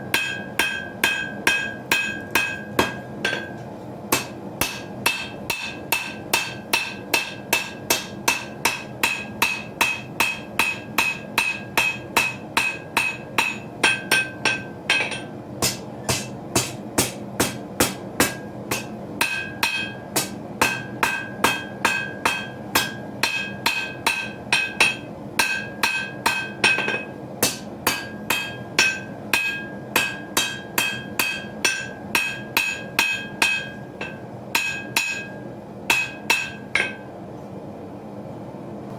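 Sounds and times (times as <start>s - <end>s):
hammer striking steel on anvil: 0.0s - 37.1s.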